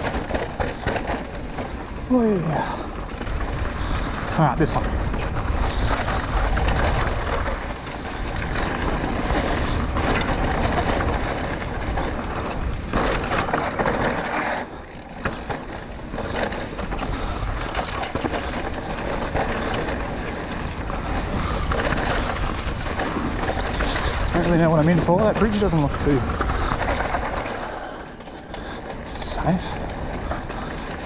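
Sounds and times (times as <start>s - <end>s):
bike rattling over rough ground: 0.0s - 31.0s
bike tyres rolling on dirt: 0.0s - 31.0s
wind rumbling on microphone: 0.0s - 31.0s.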